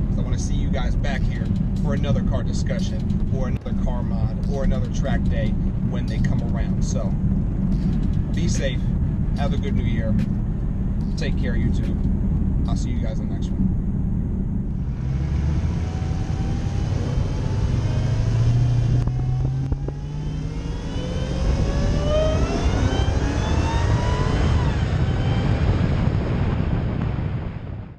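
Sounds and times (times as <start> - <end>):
car engine accelerating: 0.0 - 27.8.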